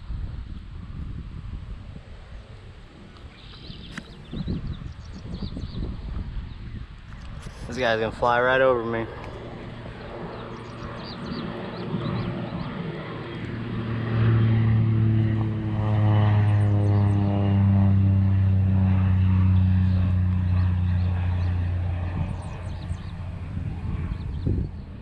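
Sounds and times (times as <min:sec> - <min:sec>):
propeller airplane flying overhead: 0:00.0 - 0:25.0.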